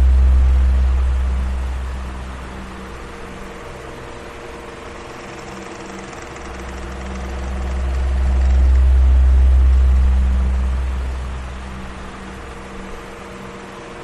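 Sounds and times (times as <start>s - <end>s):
deep rumble: 0.0s - 13.5s
electric fan humming: 0.0s - 14.0s.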